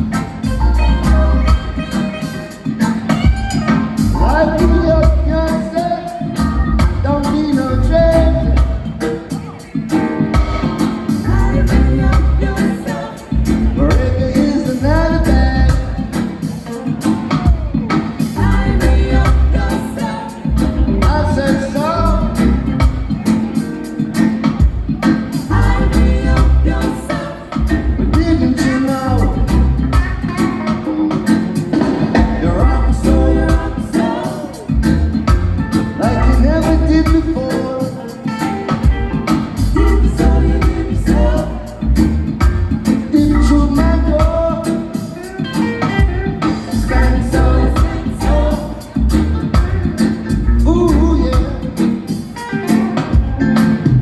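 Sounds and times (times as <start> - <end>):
bass and drums groove: 0.0 - 54.0
guitar: 0.0 - 54.0
people singing: 0.0 - 54.0.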